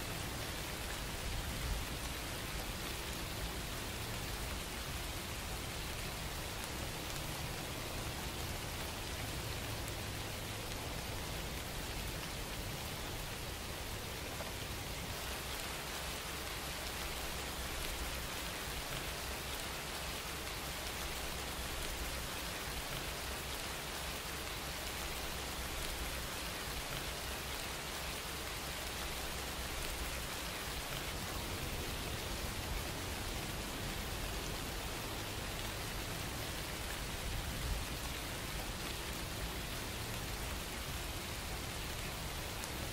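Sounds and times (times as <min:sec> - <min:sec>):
steady rain-like noise: 0:00.0 - 0:42.9.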